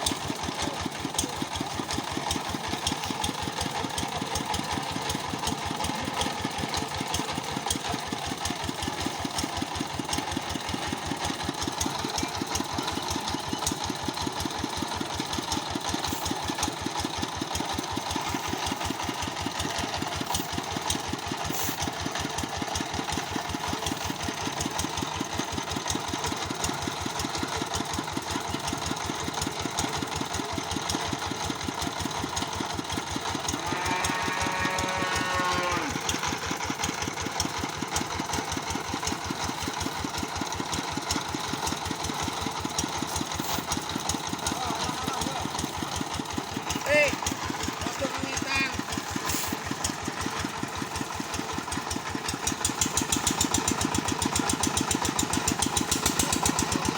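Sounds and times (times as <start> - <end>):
saw rig engine running: 0.0 - 56.9.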